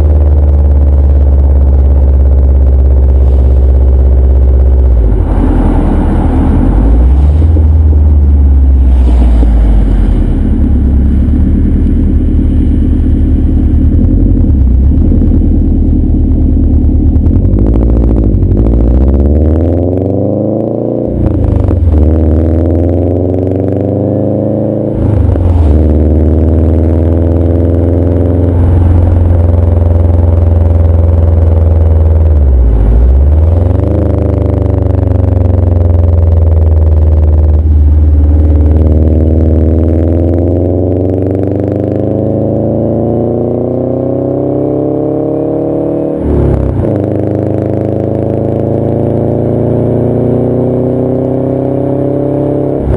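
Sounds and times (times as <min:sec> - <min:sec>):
car engine revving loudly: 0:00.0 - 0:52.9.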